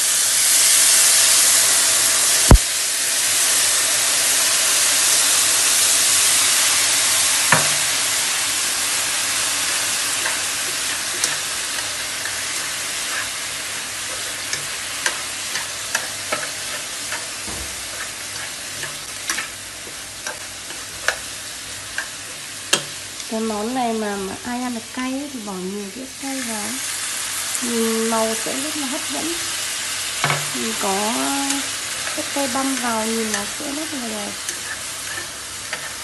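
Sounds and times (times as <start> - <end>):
glaze sizzling in a frying pan: 0.0 - 36.0.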